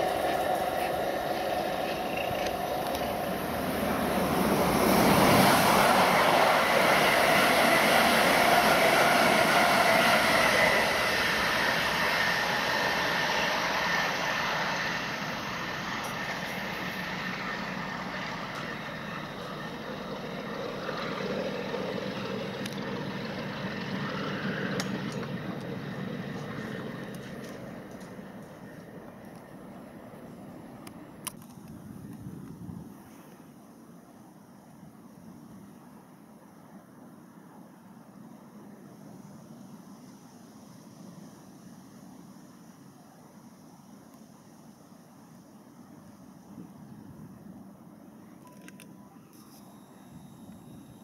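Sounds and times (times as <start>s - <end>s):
train rumble: 0.0s - 42.8s.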